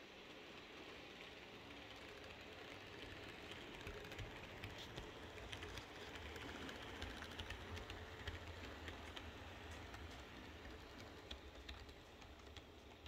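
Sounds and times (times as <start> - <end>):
model train motor hum: 0.0 - 13.0
wheels clicking over track: 0.3 - 13.0.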